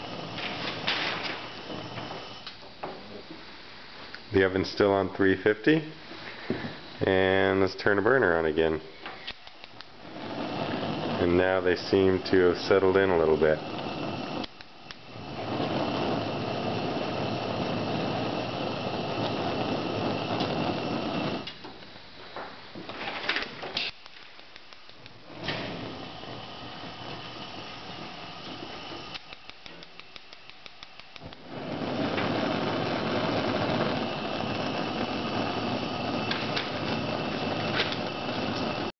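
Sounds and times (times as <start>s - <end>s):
spark igniter ticking: 0.0s - 2.9s, 7.0s - 22.0s, 22.7s - 38.9s
gas burner flame rushing: 0.0s - 38.9s.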